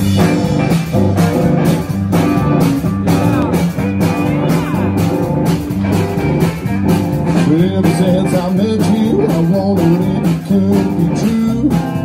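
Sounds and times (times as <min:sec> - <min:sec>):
lead guitar bending notes: 0:00.0 - 0:12.0
live rock band playing: 0:00.0 - 0:12.0.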